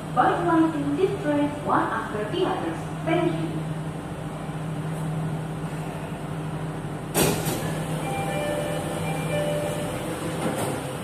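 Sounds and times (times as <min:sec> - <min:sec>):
train equipment hum: 0:00.0 - 0:11.0.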